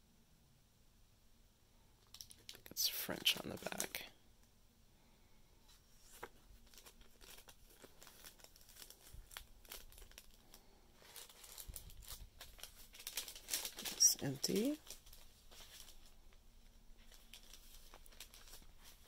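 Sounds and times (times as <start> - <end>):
paper rustling and crinkling: 2.1 - 4.1, 5.7 - 19.0.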